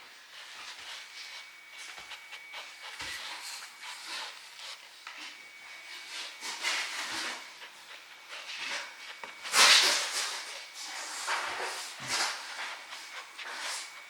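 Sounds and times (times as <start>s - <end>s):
puppy rustling and rubbing: 0.0s - 14.0s.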